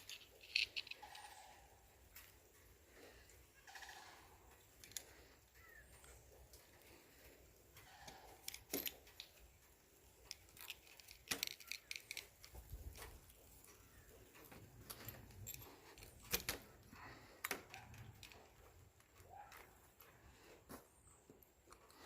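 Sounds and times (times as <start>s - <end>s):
small metal parts clicking and rattling: 0.0s - 20.2s.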